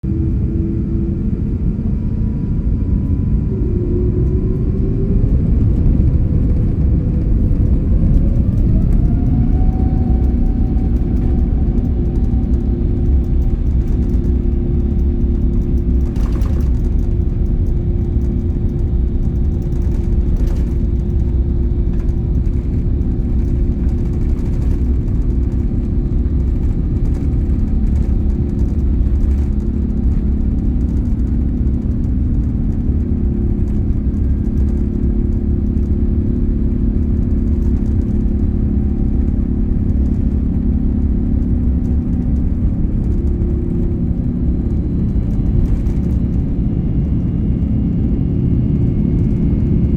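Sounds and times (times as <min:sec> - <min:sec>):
jet engines rumbling: 0:00.0 - 0:49.9.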